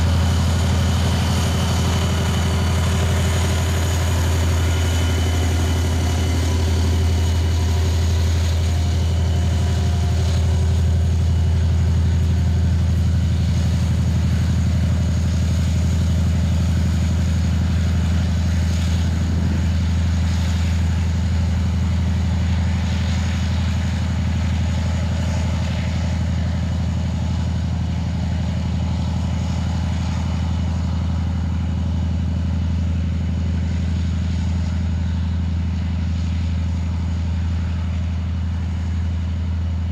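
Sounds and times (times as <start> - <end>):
diesel locomotive engine drone: 0.0 - 39.9.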